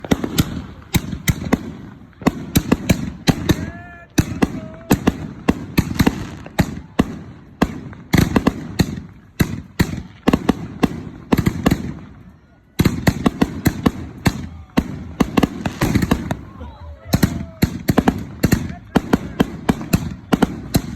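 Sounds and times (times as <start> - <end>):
fireworks bursting: 0.0 - 20.9.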